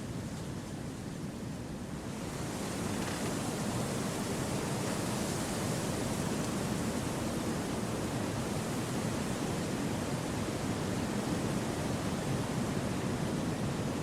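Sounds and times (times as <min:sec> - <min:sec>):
wind through a forest: 0:00.0 - 0:14.0.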